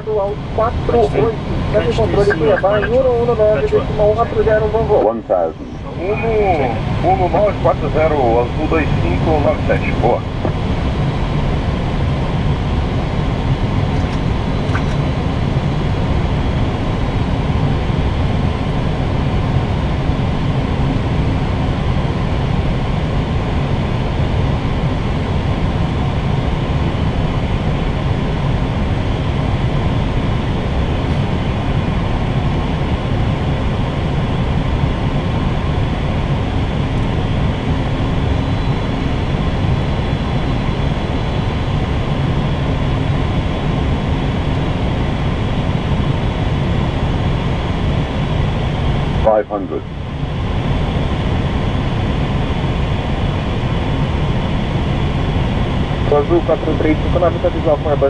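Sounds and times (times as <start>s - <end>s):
airflow and engine rumble: 0.0s - 58.0s
faint hum: 0.0s - 58.0s.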